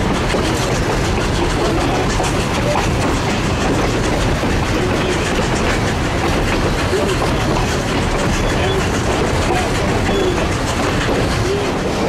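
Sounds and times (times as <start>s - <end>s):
clickety-clack of rail joints: 0.0s - 12.0s
train wheels rumbling on track: 0.0s - 12.0s.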